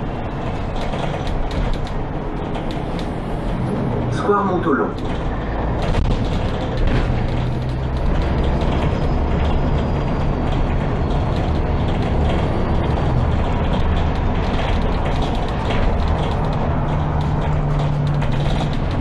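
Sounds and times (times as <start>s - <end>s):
rattles and clicks of fittings: 0.0s - 4.0s, 4.9s - 19.0s
bus engine low hum: 0.0s - 19.0s
road noise: 0.0s - 19.0s.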